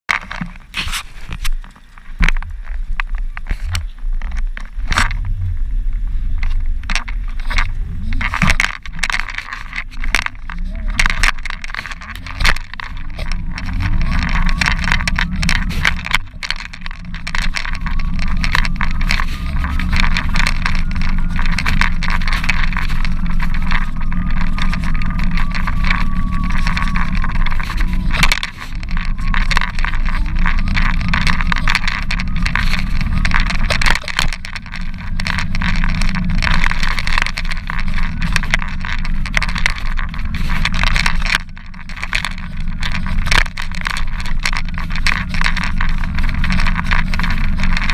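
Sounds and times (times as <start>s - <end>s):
camera mount crackling and scraping: 0.1s - 5.3s, 6.4s - 47.9s
low rumble: 0.1s - 47.9s.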